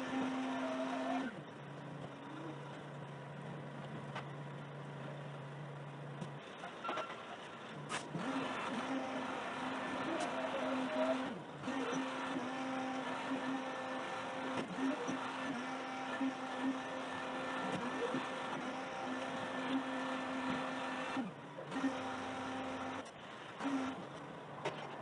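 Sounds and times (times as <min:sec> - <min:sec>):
garbage truck diesel hum: 0:00.0 - 0:25.0.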